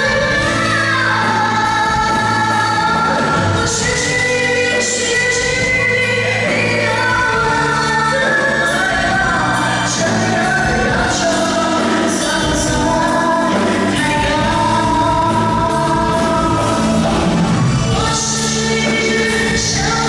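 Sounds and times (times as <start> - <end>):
pop song with live band: 0.0 - 20.0.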